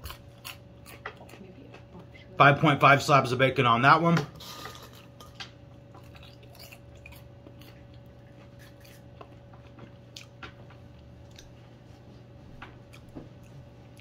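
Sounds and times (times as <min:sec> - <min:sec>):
person chewing popcorn: 0:00.0 - 0:02.2, 0:04.4 - 0:14.0
steady low hum: 0:00.0 - 0:14.0.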